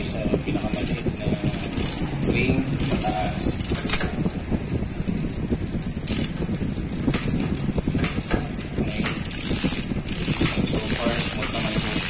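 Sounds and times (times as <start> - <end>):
bike chain turning over cassette: 0.0 - 12.0
derailleur shifting clicks: 0.6 - 12.0.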